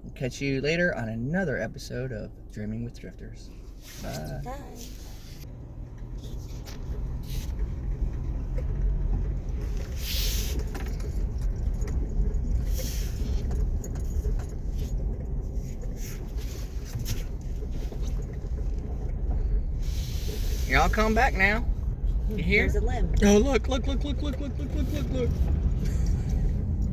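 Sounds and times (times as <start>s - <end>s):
vehicle interior rumble: 0.0s - 26.9s
rattles: 3.4s - 26.9s.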